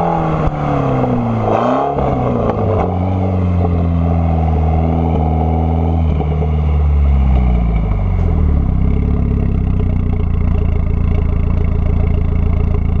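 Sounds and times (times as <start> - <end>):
car engine revving then idling: 0.0 - 13.0.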